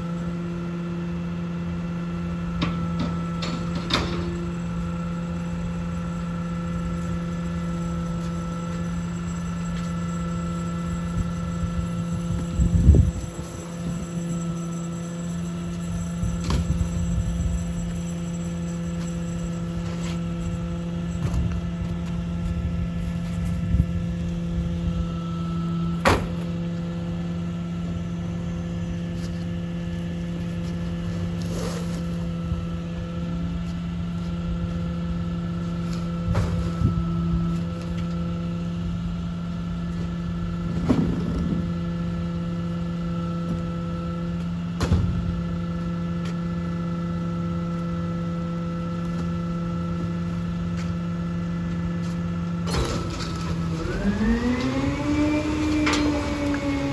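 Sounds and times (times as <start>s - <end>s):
garbage truck idling: 0.0s - 56.9s.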